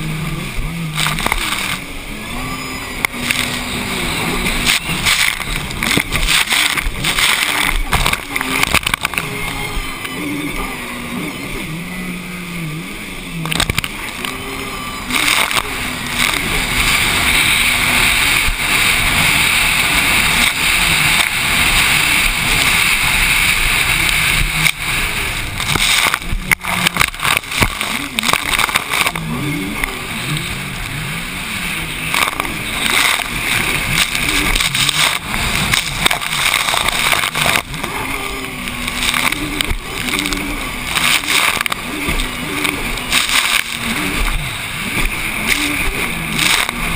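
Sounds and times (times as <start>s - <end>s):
jet ski engine revving: 0.0s - 46.9s
water rushing and spray: 0.0s - 46.9s.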